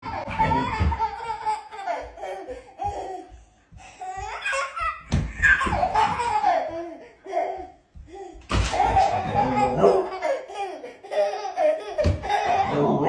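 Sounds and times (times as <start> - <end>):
baby laughing: 0.0 - 3.4, 4.0 - 13.0.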